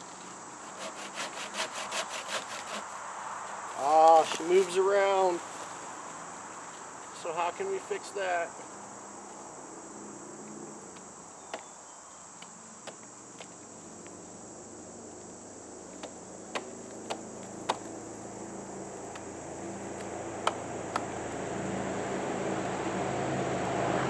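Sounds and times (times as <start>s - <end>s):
crickets and insects droning: 0.0s - 24.0s.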